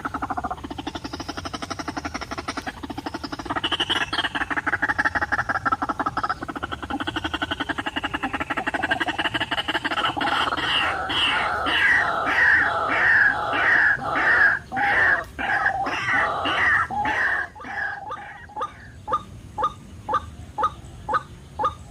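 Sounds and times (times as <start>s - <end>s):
bird croaking call: 0.0s - 21.9s.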